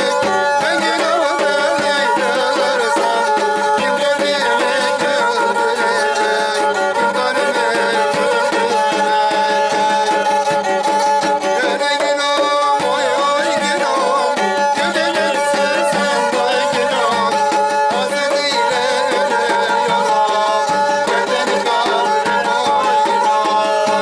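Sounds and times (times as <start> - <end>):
bowed string instrument melody: 0.0 - 24.0
large drum beaten by hand: 0.0 - 24.0.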